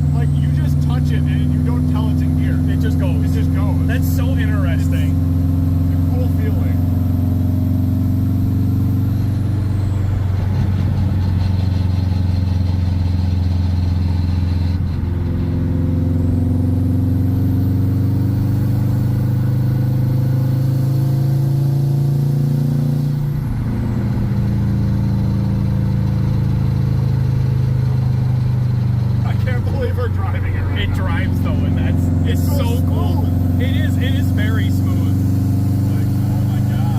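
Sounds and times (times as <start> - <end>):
car engine droning: 0.0 - 36.9.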